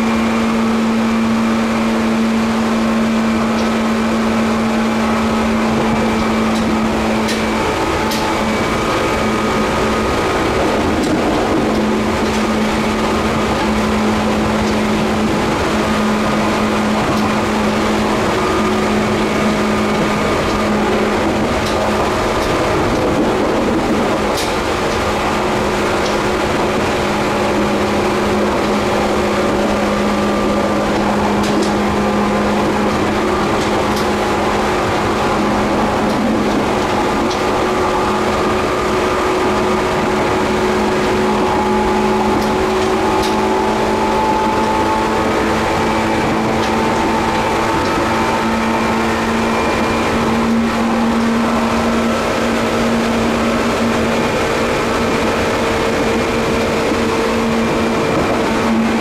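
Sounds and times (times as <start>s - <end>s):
train motor humming: 0.0s - 59.0s
wheels rumbling on rail: 0.0s - 59.0s.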